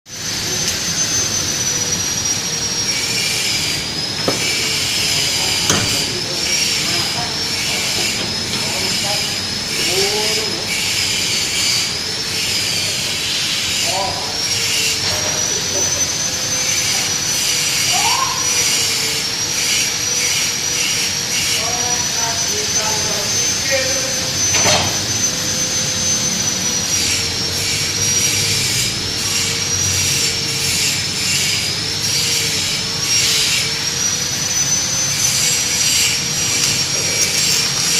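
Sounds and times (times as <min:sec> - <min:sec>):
machine rushing hiss and whine: 0:00.1 - 0:37.9.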